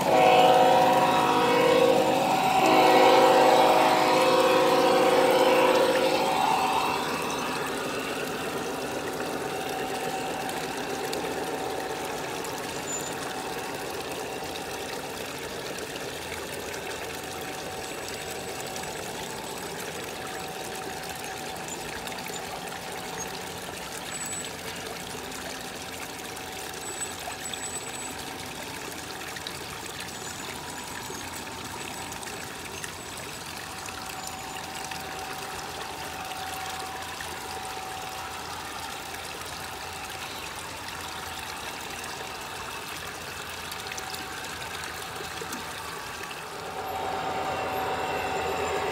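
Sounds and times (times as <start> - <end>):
small waterfall trickling into pond: 0.0 - 48.9.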